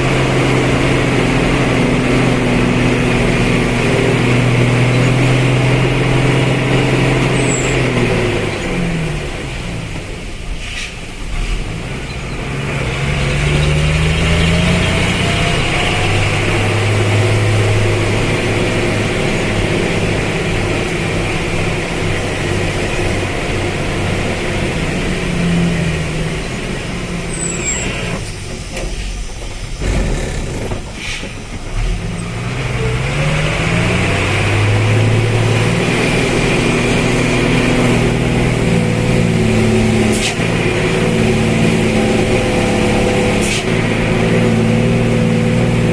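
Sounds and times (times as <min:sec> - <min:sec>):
vehicle engine revving uphill: 0:00.0 - 0:10.4, 0:11.2 - 0:45.9.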